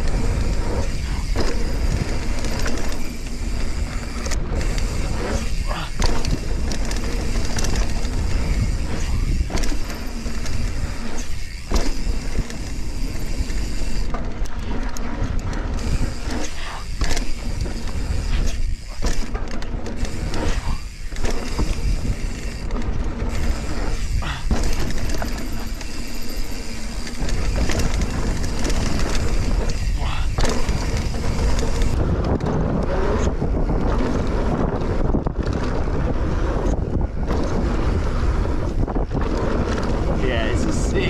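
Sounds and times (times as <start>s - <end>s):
bike knocks and rattles: 0.0s - 41.0s
bike tyres rolling over dirt: 0.0s - 41.0s
wind rumble on microphone: 0.0s - 41.0s.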